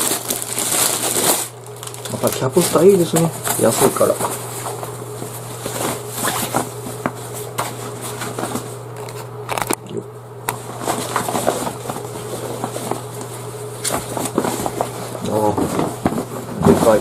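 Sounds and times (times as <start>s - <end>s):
fabric bag rustling and crinkling: 0.0s - 8.7s, 10.6s - 17.0s.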